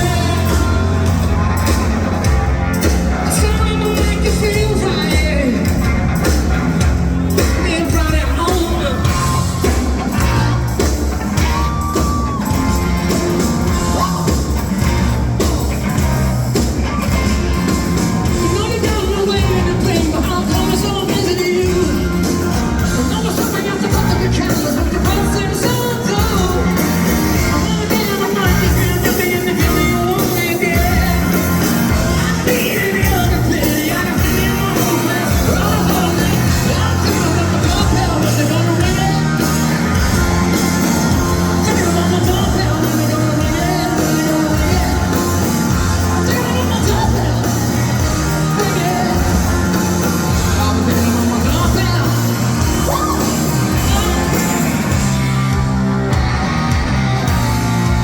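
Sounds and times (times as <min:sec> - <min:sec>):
man singing: 0:00.0 - 0:55.8
live rock band playing: 0:00.0 - 0:58.0.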